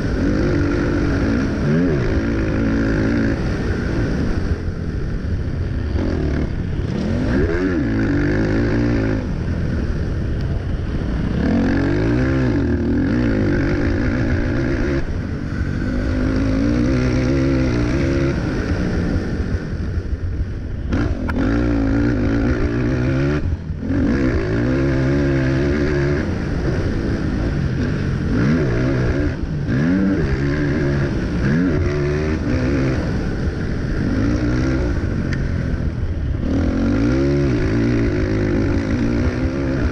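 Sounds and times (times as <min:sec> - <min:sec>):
quad engine revving: 0:00.0 - 0:04.7, 0:05.6 - 0:10.0, 0:10.8 - 0:20.1, 0:20.8 - 0:39.9.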